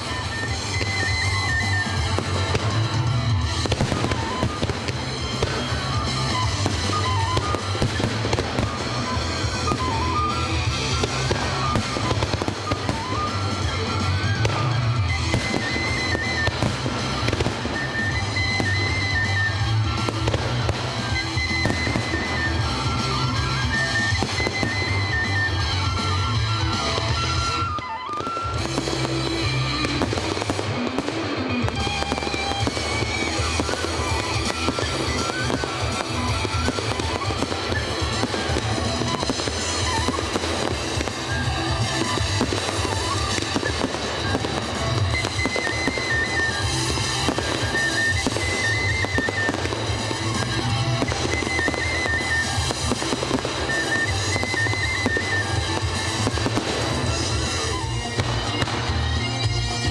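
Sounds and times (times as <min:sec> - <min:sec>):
fireworks bangs and crackles: 0:00.0 - 0:59.9
music with steady bass: 0:00.0 - 0:59.9.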